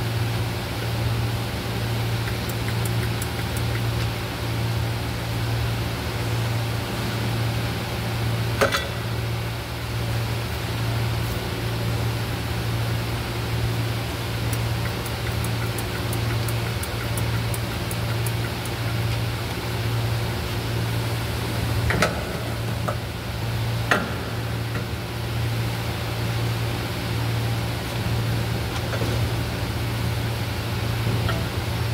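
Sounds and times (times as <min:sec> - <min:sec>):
workshop machinery hum: 0:00.0 - 0:31.9.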